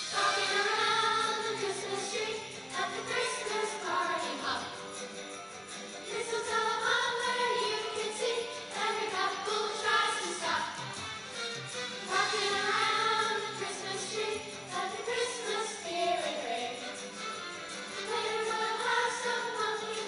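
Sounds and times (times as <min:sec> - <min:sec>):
choir singing a christmas song: 0:00.0 - 0:20.0.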